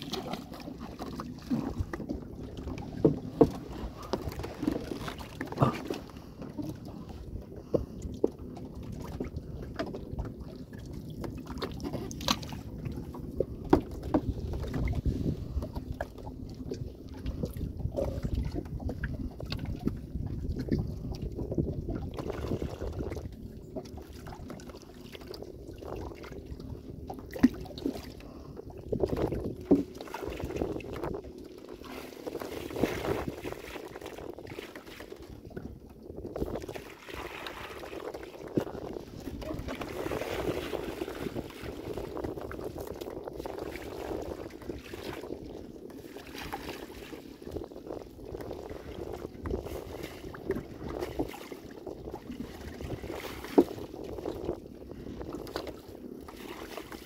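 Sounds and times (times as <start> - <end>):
water sloshing and splashing: 0.0 - 57.0.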